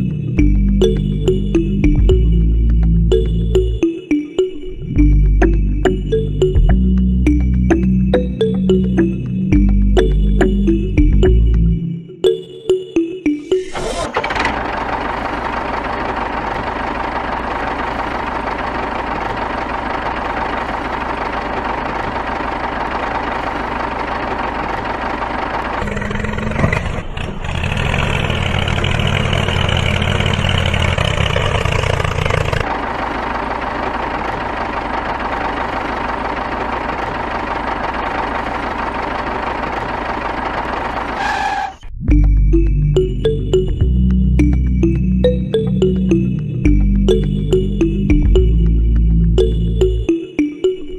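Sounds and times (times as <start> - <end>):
engine idling with whine: 0.0 - 12.6, 13.7 - 50.6.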